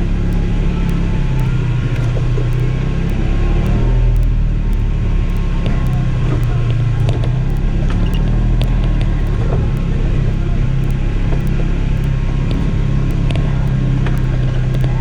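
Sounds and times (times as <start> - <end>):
sharp clicks and knocks: 0.0 - 15.0.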